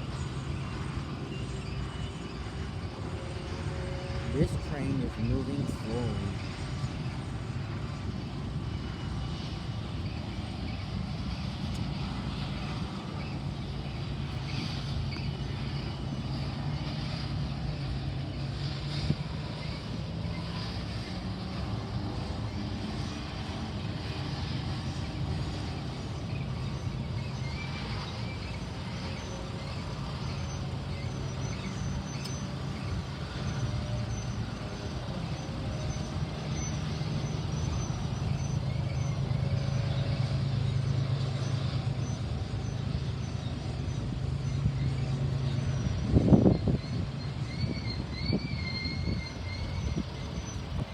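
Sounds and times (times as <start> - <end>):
freight train rolling past: 0.0 - 50.9.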